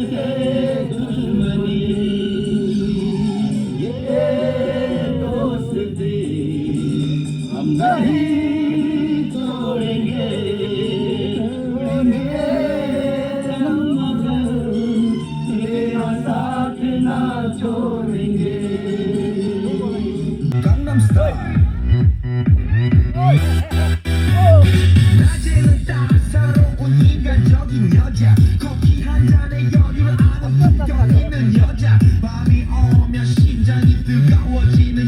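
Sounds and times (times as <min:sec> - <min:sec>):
music with voices singing: 0:00.0 - 0:35.0.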